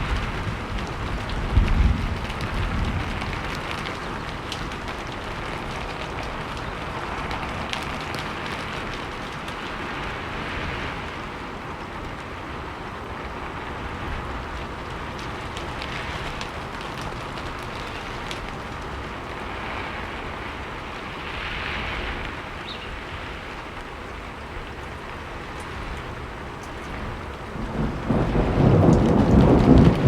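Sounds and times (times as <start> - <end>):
raindrops ticking on a surface: 0.0 - 30.0
steady rainfall: 0.0 - 30.0
thunder rumble: 0.0 - 30.0.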